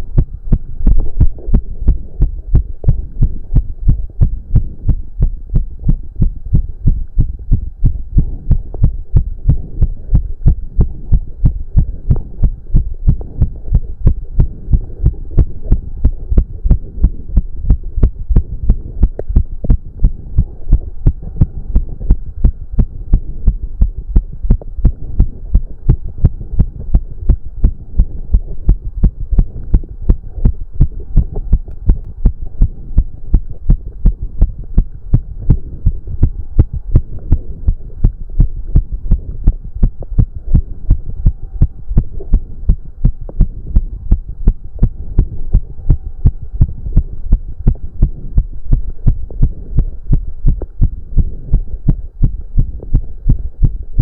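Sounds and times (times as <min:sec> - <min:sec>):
fast heartbeat: 0:00.0 - 0:54.0.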